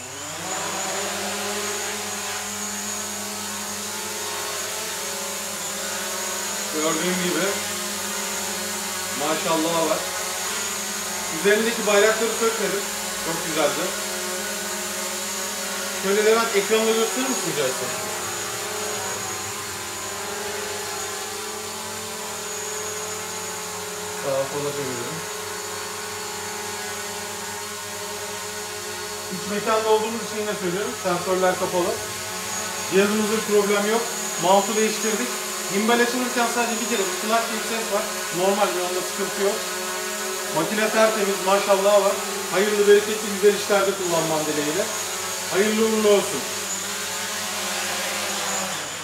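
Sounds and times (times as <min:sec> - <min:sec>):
drone propellers buzzing: 0:00.0 - 0:49.0.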